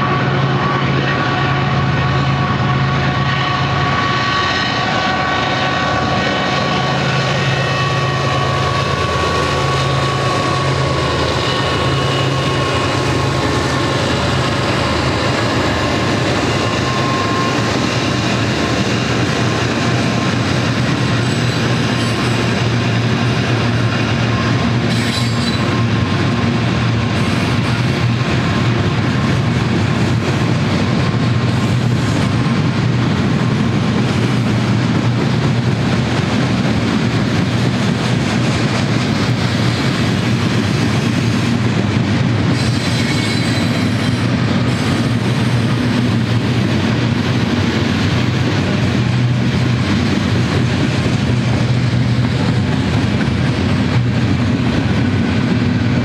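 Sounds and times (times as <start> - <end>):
diesel locomotives droning past: 0.0 - 56.0
freight cars rolling on rails: 0.0 - 56.0.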